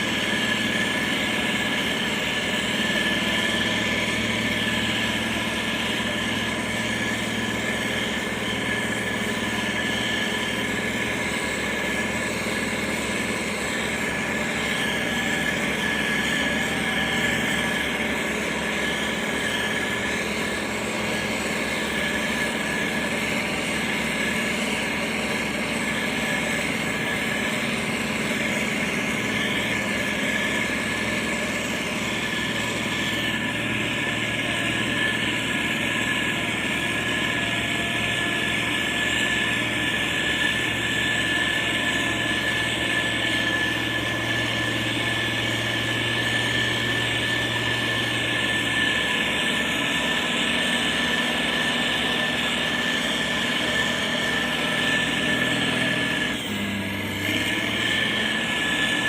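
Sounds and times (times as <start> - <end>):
diesel engine running: 0.0 - 59.0
high whine: 0.0 - 59.0.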